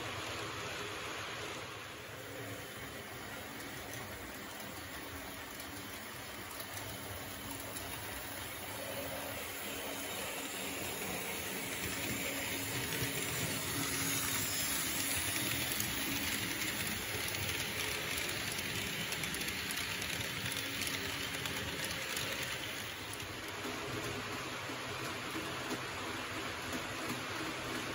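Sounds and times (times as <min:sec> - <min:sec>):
model train wheels rolling on rails: 0:00.0 - 0:27.9.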